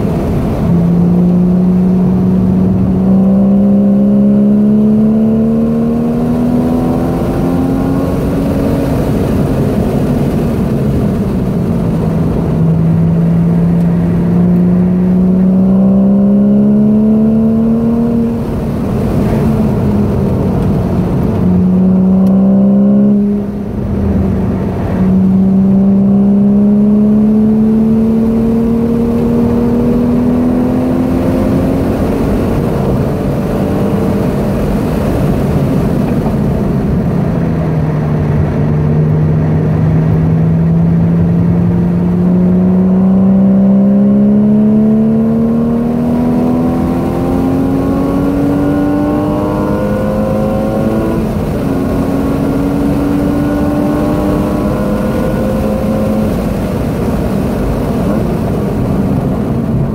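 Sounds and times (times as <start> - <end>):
car engine accelerating: 0.0 - 59.9
tyre and road noise: 0.0 - 59.9.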